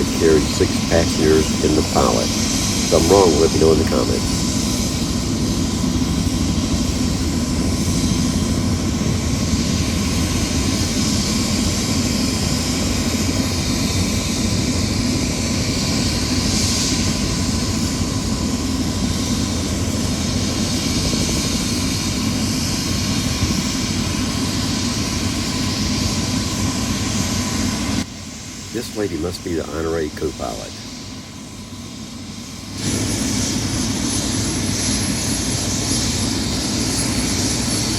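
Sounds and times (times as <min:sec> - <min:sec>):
faint steady whine: 0:00.0 - 0:21.7, 0:22.8 - 0:37.9
helicopter engine and rotor: 0:00.0 - 0:37.9.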